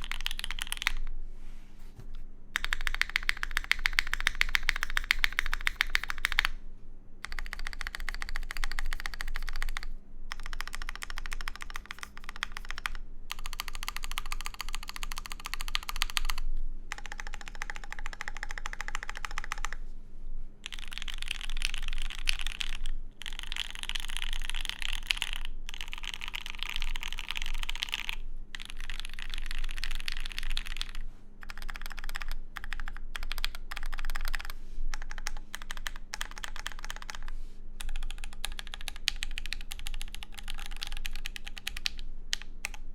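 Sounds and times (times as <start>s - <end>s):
mechanical keyboard typing: 0.0s - 1.0s, 2.6s - 6.5s, 7.2s - 19.8s, 20.6s - 42.8s.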